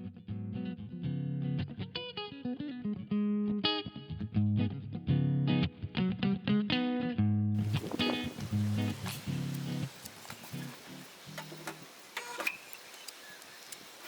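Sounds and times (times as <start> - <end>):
guitar music with bass: 0.0 - 11.6.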